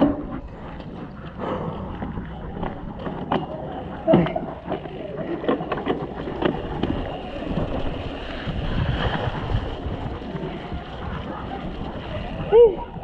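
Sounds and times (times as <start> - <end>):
bike rattling over bumps: 0.0 - 13.0
bike tyres rumbling through mud: 0.0 - 13.0
wind buffeting microphone: 0.0 - 13.0.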